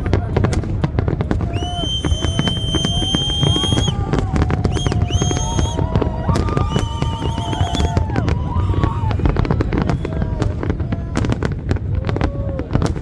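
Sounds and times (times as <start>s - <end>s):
fireworks cracking and banging: 0.0s - 13.0s
whistling fireworks: 0.0s - 13.0s.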